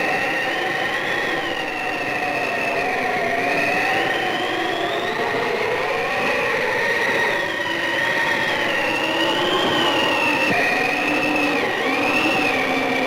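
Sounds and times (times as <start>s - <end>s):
howling blizzard wind: 0.0s - 13.0s.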